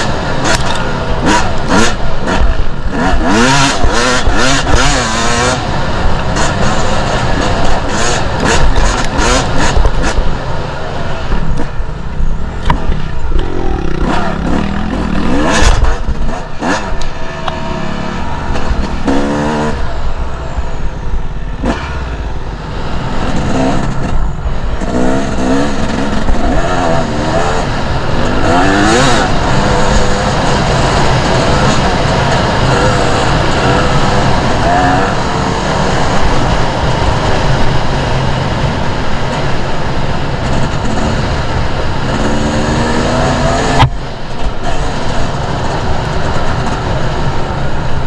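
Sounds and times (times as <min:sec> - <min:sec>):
motorcycle engine revving: 0:00.0 - 0:48.0
wind noise: 0:00.0 - 0:48.0.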